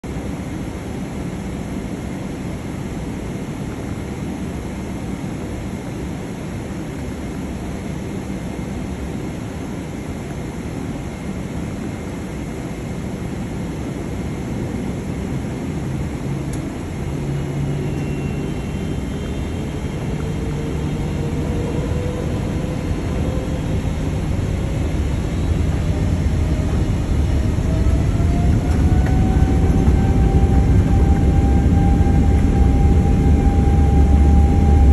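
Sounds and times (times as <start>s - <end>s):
rising jet engine whine: 0.0s - 34.9s
jet engines rumbling: 0.1s - 34.9s.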